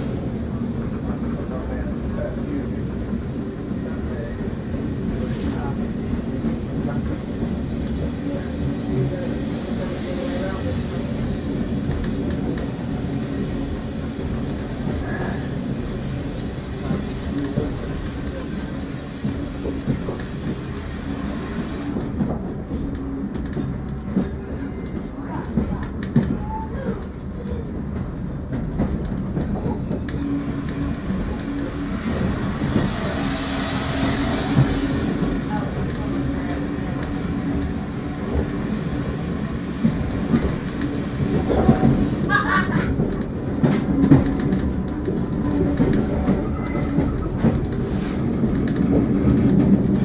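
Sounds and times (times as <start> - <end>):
train carriage rumble and rattle: 0.0 - 50.0.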